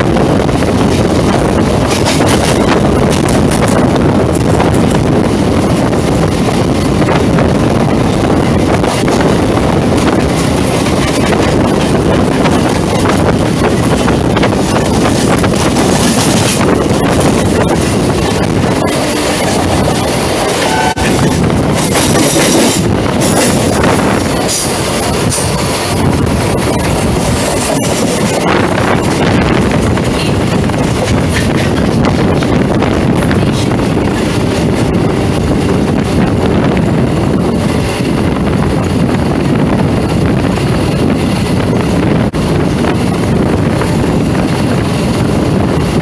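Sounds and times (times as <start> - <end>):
train wheels clattering on rails: 0.0 - 46.0.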